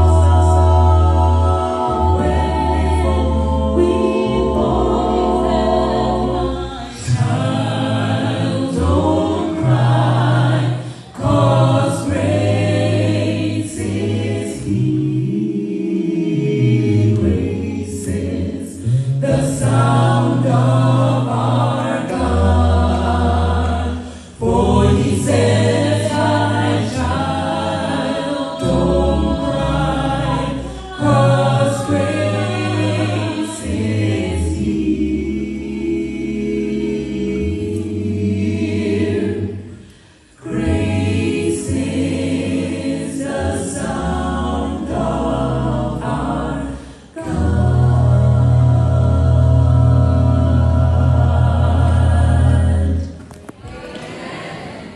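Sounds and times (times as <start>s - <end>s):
a cappella group singing gospel: 0.0s - 54.9s.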